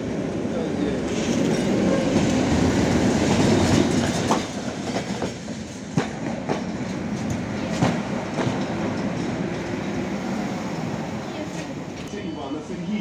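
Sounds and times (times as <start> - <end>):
tram rumbling past: 0.0 - 13.0
tram wheels clacking over rail joints: 0.8 - 12.2.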